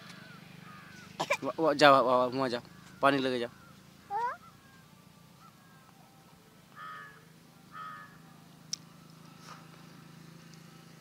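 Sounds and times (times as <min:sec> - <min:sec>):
faint bird calls: 0:00.0 - 0:09.7.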